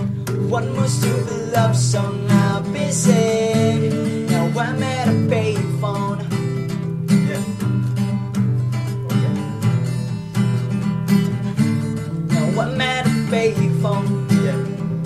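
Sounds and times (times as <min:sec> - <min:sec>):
person singing: 0:00.0 - 0:07.7, 0:08.8 - 0:10.7, 0:12.1 - 0:15.0
acoustic guitar strumming: 0:00.0 - 0:15.0.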